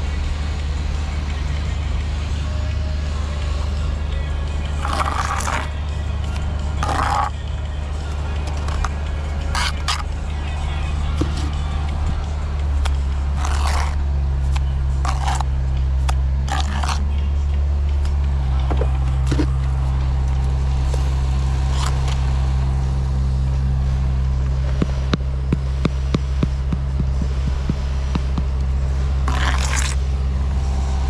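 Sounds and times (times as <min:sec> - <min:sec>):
low motor drone: 0:00.0 - 0:31.0.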